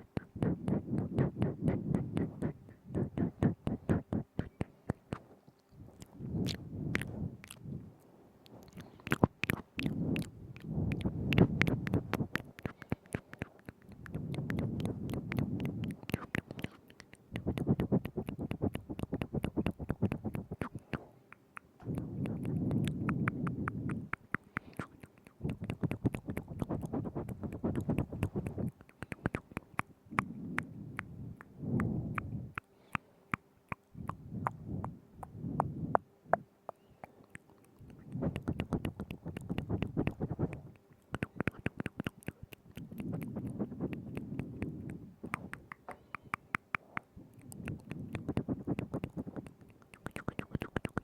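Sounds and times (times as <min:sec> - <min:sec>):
wet mouth clicks and smacks: 0:00.0 - 0:07.8, 0:08.4 - 0:51.0.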